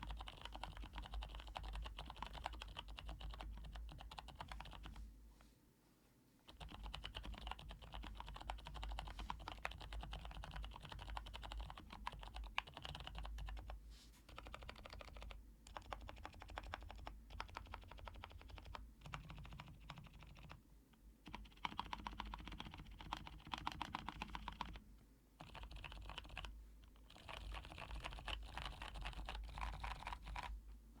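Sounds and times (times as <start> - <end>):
mechanical keyboard typing: 0.0 - 4.9, 6.5 - 20.6, 21.2 - 24.8, 25.4 - 30.5.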